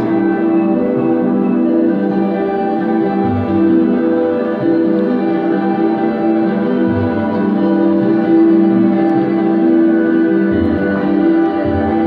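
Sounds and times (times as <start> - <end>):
ambient synthesizer chords: 0.0 - 12.0.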